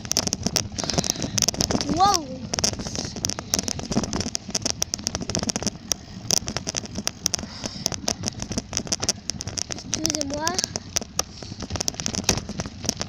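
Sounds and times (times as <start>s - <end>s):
bicycle rattling and clicking: 0.0s - 13.0s.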